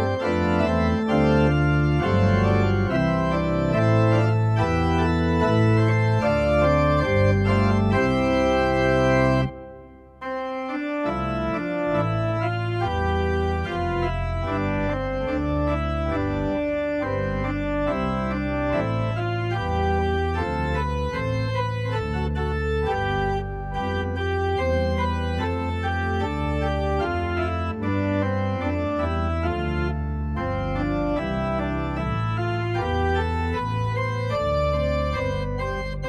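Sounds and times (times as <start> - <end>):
organ playing a hymn: 0.0 - 36.0.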